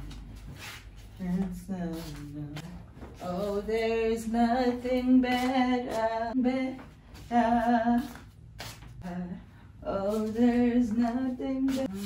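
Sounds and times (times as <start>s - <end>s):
woman singing slow tune: 1.1s - 8.3s, 9.0s - 12.0s.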